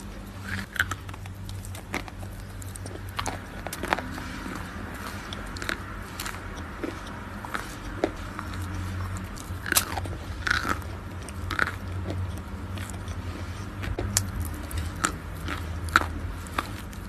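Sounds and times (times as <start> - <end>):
chalk being chewed: 0.0 - 17.0
steady low hum: 0.0 - 17.0.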